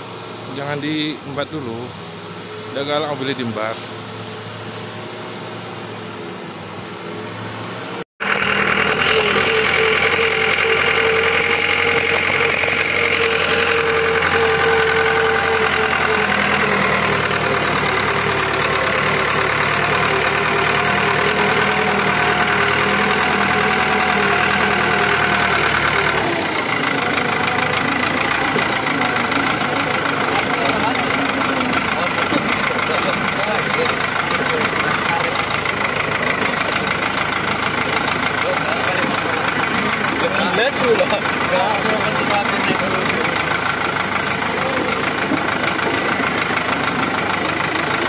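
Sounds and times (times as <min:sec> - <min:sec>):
engine running close: 0:00.0 - 0:48.0
faint engine hum: 0:00.0 - 0:48.0.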